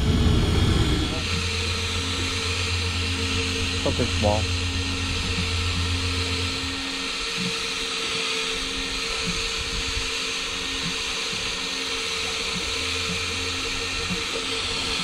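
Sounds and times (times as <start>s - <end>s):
fishing reel motor whine: 0.0s - 15.0s.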